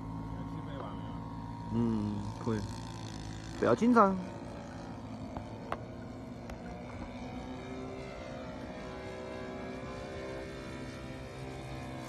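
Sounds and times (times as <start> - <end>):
model airplane engine droning: 0.0 - 12.0.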